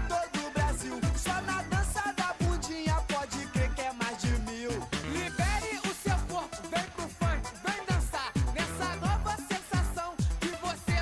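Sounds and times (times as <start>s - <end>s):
chopped vocal lines: 0.0s - 11.0s
funk music: 0.0s - 11.0s.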